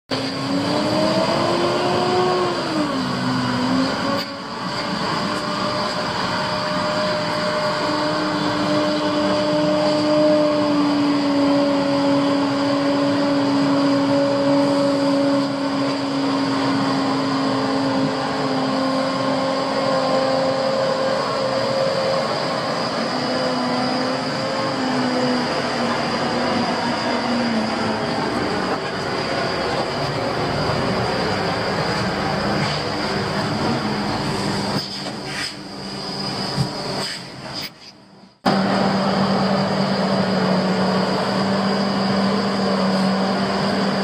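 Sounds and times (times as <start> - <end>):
diesel truck engine droning: 0.1 - 44.0
whine: 0.1 - 44.0.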